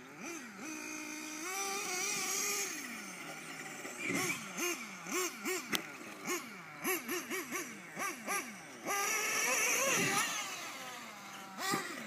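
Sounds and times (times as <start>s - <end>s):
toy car motor revving: 0.0s - 12.0s.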